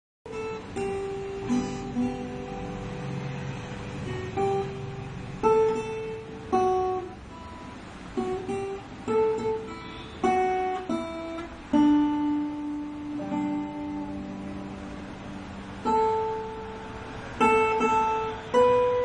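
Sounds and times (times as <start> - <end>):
plucked guitar melody: 0.3 - 19.0.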